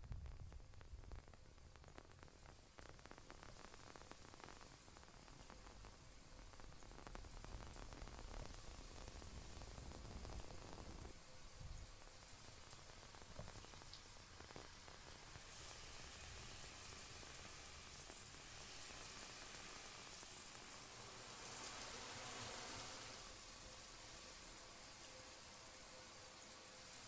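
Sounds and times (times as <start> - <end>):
faint rain patter: 0.0 - 27.0.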